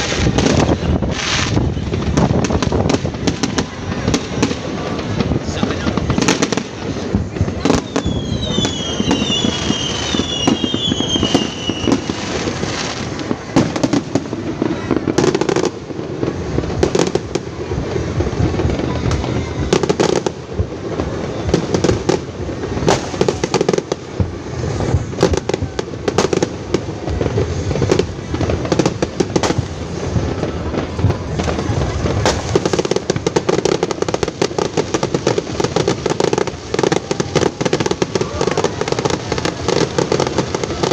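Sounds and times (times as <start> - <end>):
falling firework whistles: 0.0 - 5.0, 7.5 - 17.5, 21.0 - 40.9
fireworks bangs and crackling: 0.0 - 40.9.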